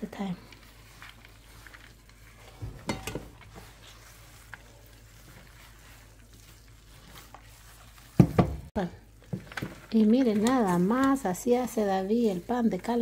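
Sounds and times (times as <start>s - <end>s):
hands squishing wet batter: 0.0s - 13.0s.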